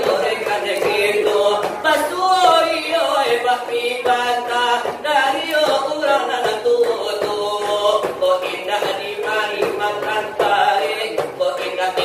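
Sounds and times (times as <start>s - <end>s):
voices singing devotional verse: 0.0s - 12.0s.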